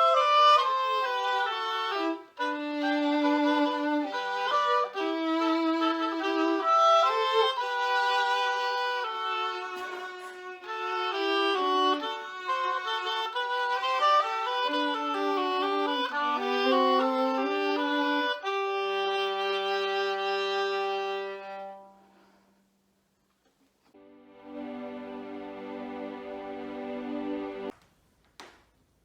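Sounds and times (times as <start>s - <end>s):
classical instrumental duet: 0.0s - 29.0s.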